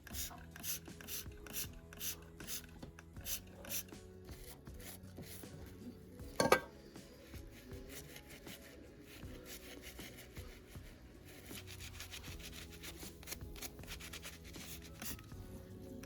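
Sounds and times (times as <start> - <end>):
hand scrubbing rust: 1.5 - 15.3.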